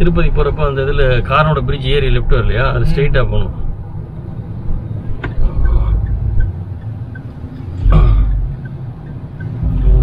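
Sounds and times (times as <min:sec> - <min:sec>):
engine and road rumble in cabin: 0:00.0 - 0:10.0.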